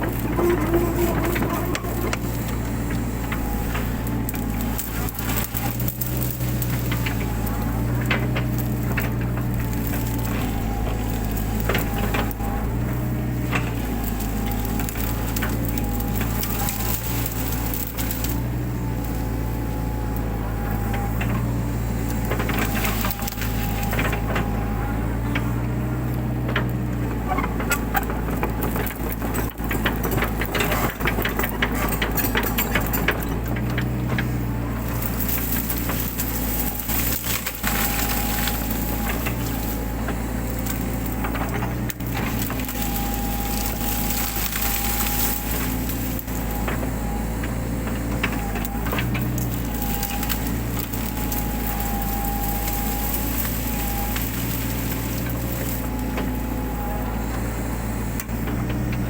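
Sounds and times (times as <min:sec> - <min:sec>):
branches crackling and snapping: 0:00.0 - 0:59.0
mini excavator engine running: 0:00.0 - 0:59.0.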